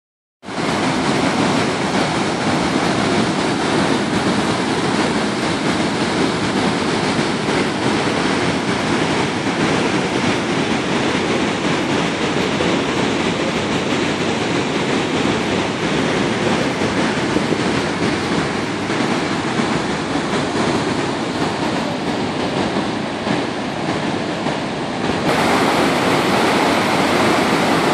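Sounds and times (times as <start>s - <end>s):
waterfall rushing: 0.5s - 27.9s.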